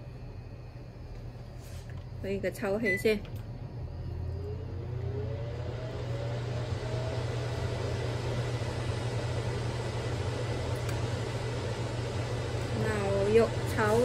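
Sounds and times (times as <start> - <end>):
extractor fan running: 0.0 - 14.0.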